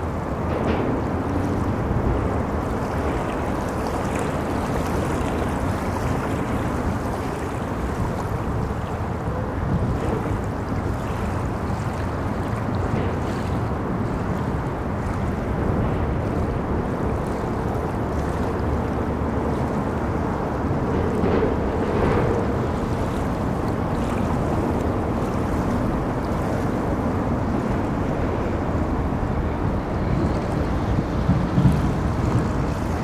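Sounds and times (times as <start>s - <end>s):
river water flowing: 0.0s - 33.0s
traffic rumble on bridge: 0.0s - 33.0s.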